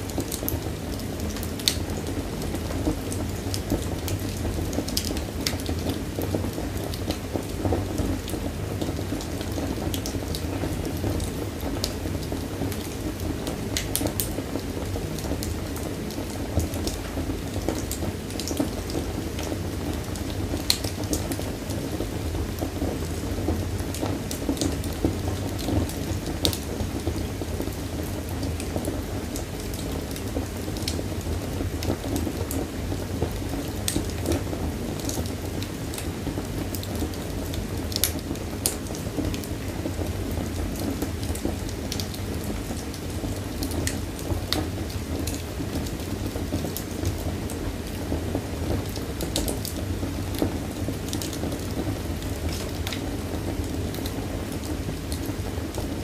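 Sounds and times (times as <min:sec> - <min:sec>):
fire rumbling: 0:00.0 - 0:56.0
wood fire popping and snapping: 0:00.0 - 0:56.0.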